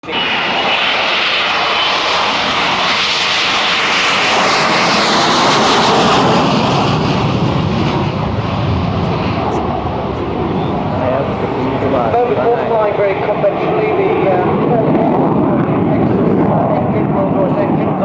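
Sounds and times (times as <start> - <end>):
jet engine roaring: 0.0 - 18.0.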